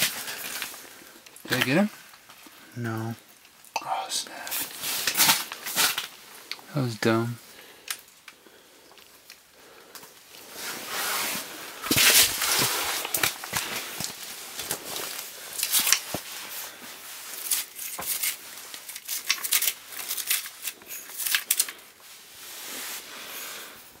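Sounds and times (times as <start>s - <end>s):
rustling and crinkling: 0.0s - 24.0s.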